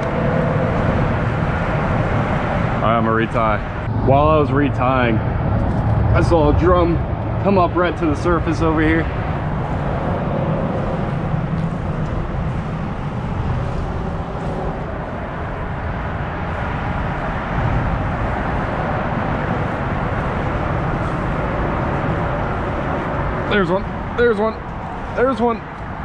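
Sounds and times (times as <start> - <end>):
traffic rumble on bridge: 0.0 - 26.0.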